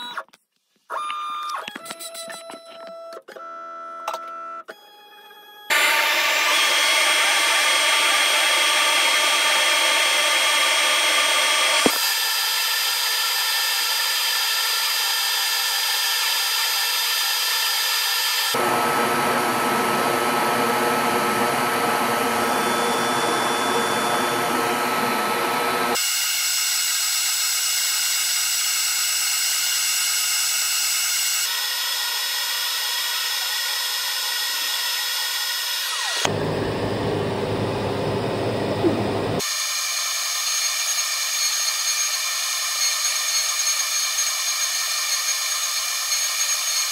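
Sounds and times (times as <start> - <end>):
router spindle high-pitched whine: 5.7 - 46.9.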